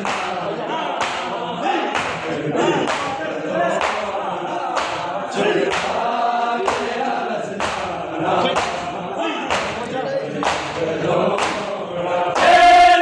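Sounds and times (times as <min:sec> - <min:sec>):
hands slapping bare chests: 0:00.0 - 0:07.0, 0:07.6 - 0:08.9, 0:09.5 - 0:11.7
men chanting in unison: 0:00.0 - 0:13.0.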